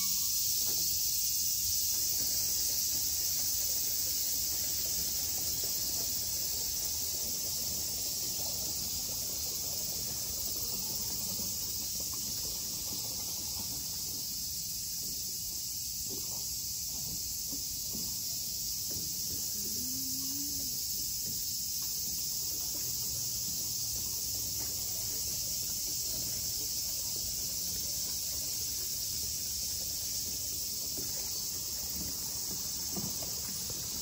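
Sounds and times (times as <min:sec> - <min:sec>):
cicadas droning: 0:00.0 - 0:34.0.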